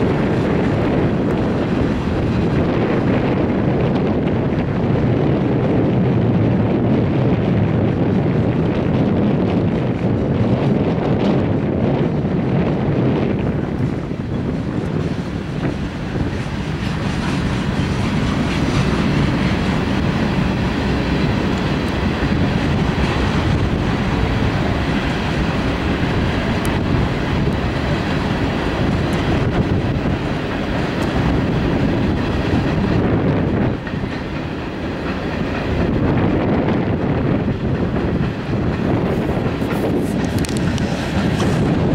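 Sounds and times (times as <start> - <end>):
rail joint clicks: 0.0 - 41.9
train wheels rumbling on rails: 0.0 - 41.9.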